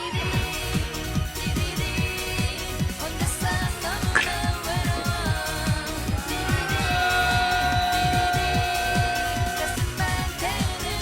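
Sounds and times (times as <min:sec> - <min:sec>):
background music with synth: 0:00.0 - 0:11.0.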